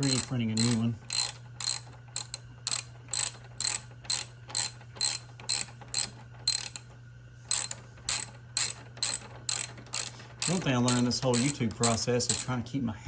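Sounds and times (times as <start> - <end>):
mechanical ratchet clicking: 0.0 - 6.9, 7.5 - 12.6.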